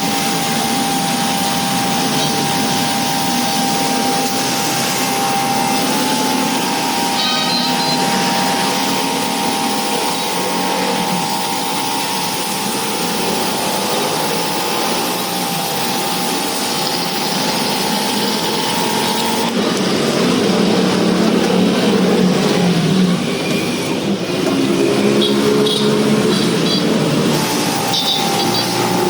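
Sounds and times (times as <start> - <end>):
pressure washer whining: 0.0 - 29.0.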